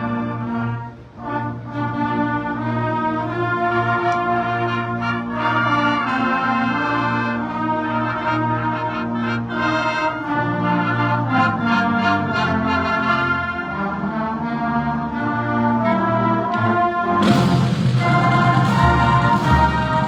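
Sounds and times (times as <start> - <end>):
marching band brass chords: 0.0 - 20.0.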